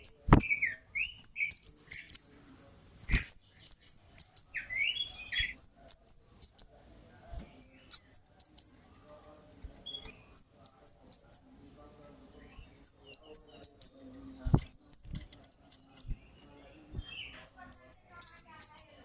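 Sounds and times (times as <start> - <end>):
bird chirping: 0.0 - 11.7, 12.3 - 19.0.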